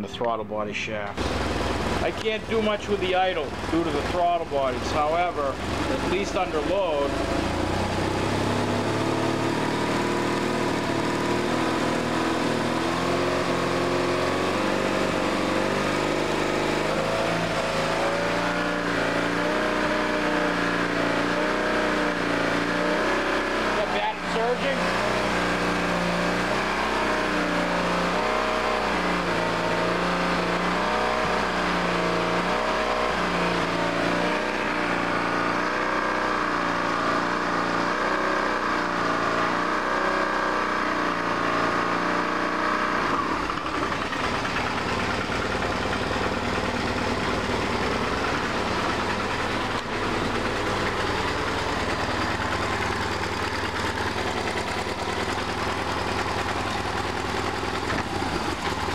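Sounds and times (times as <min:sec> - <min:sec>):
motorcycle engine revving: 0:00.9 - 0:58.9.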